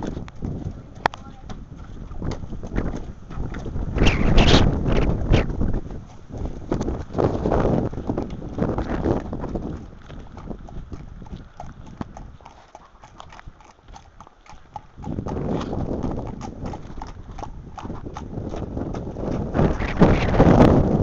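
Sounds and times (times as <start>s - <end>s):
horse hooves clopping: 0.0s - 21.0s
wind buffeting microphone: 0.0s - 21.0s.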